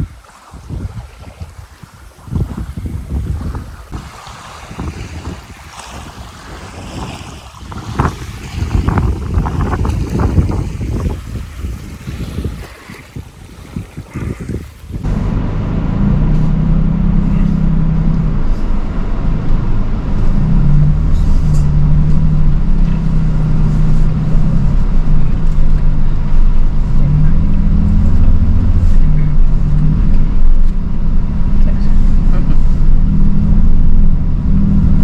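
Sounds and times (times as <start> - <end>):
vehicle engine driving off-road: 0.8 - 13.2, 14.0 - 35.0.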